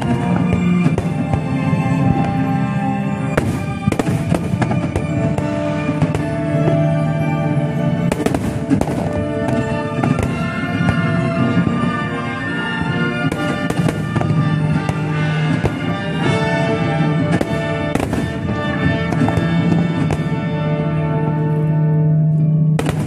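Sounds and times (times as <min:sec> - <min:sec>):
firework shells bursting and crackling: 0:00.0 - 0:20.8, 0:22.7 - 0:23.0
music with long held notes: 0:00.0 - 0:23.0.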